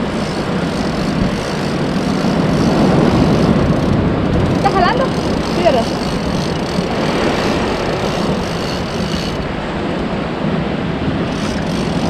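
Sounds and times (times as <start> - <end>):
strong wind buffeting microphone: 0.0 - 12.0
surf washing over rocks: 0.0 - 12.0.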